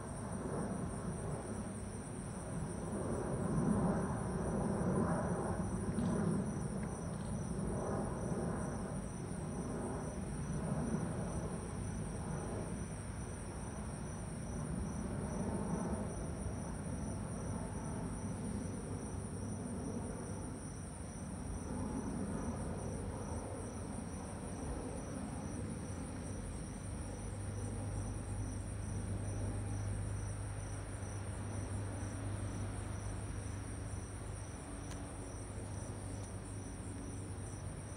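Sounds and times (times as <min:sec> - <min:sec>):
crickets chirring: 0:00.0 - 0:37.9
jet engines passing overhead: 0:00.0 - 0:37.9
steady low hum: 0:00.0 - 0:37.9.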